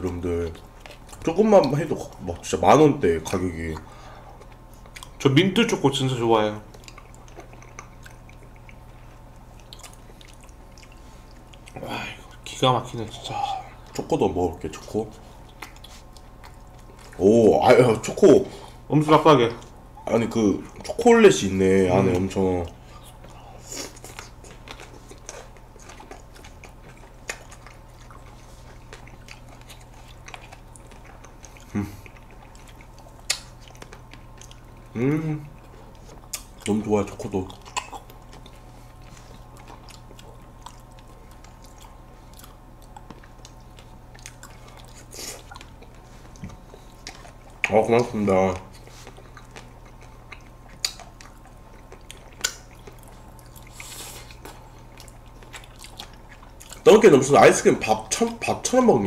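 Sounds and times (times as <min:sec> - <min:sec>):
wet chewing: 0:00.0 - 0:58.9
voiced hum: 0:00.0 - 0:59.0.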